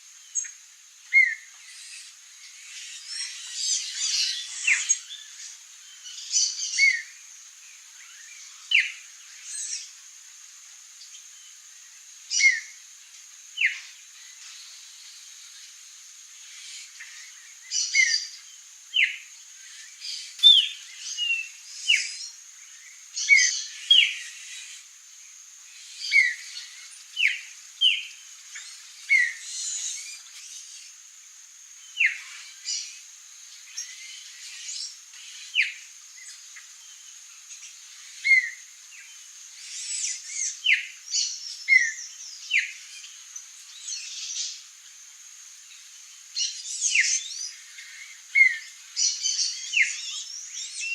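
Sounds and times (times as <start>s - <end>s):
songbirds chirping: 0.0s - 50.9s
steady high-pitched hiss: 0.0s - 50.9s.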